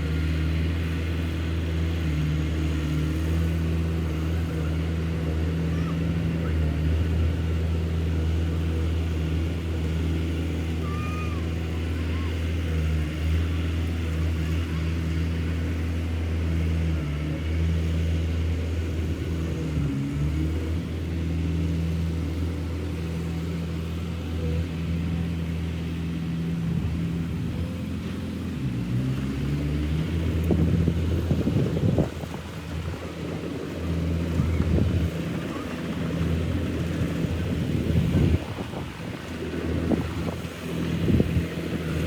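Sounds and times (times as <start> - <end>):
heavy diesel engine under load: 0.0 - 42.0.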